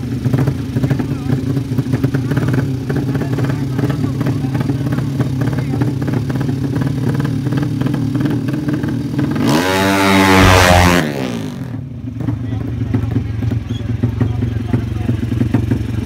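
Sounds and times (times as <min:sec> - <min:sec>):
motorcycle engines idling: 0:00.0 - 0:16.0
motorcycle revving: 0:00.0 - 0:16.0.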